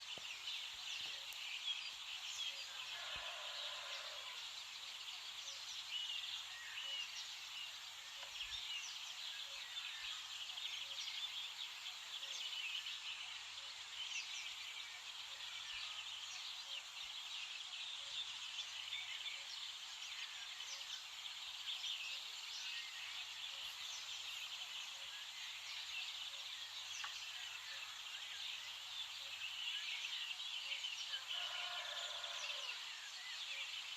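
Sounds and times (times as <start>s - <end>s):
many small birds singing: 0.0s - 33.9s.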